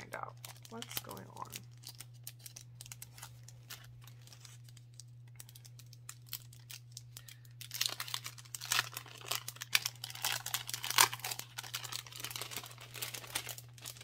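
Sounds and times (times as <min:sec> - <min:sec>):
plastic sleeve crinkling: 0:00.0 - 0:14.0.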